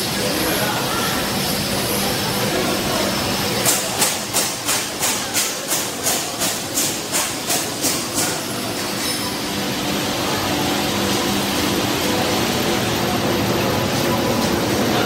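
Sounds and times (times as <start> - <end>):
coating machines running: 0.0 - 15.0.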